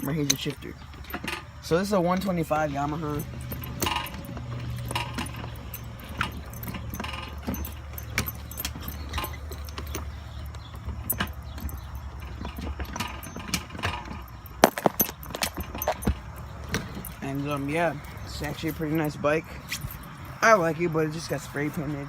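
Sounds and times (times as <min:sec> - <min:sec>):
metallic clicks and rattles: 0:00.0 - 0:20.4
engine running low: 0:00.0 - 0:22.0.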